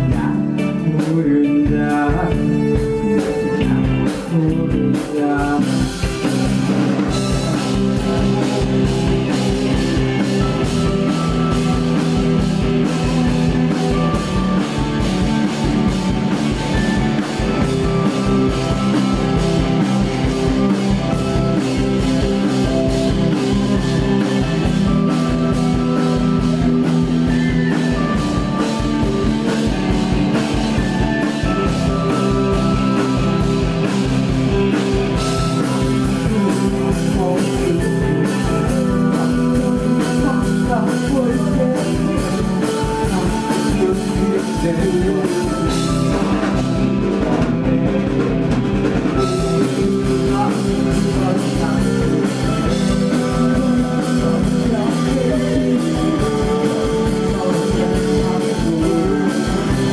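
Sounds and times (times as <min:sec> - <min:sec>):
bass guitar: 0:00.0 - 0:59.9
drum kit beating: 0:00.0 - 0:59.9
electric guitars: 0:00.0 - 0:59.9.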